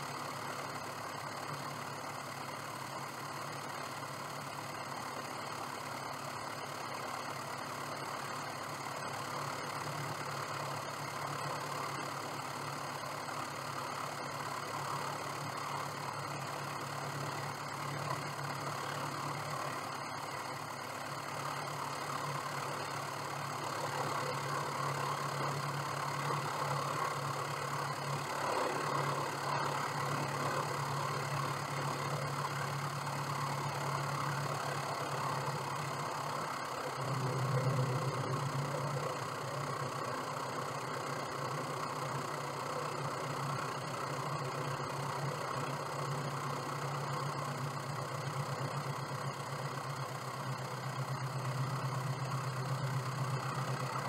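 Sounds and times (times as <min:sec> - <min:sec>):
small plane engine idling: 0:00.0 - 0:54.0.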